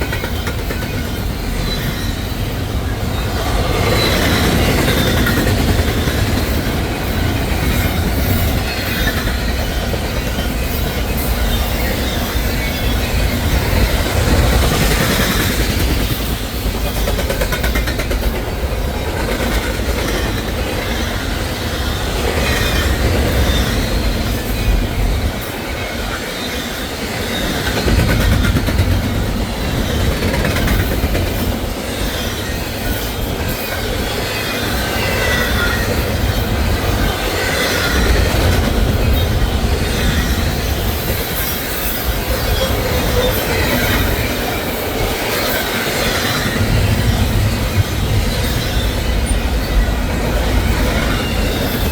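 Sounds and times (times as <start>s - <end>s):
freight train wheels clattering: 0.0s - 51.9s
train wheel squeal: 0.0s - 51.9s.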